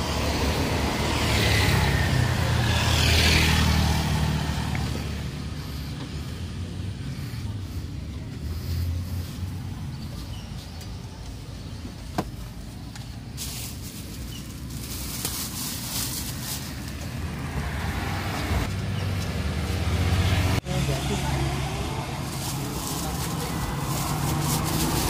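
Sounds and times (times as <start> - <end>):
vehicle approaching: 0.0 - 12.0, 12.7 - 25.0
passing cars and motorbikes: 0.0 - 25.0.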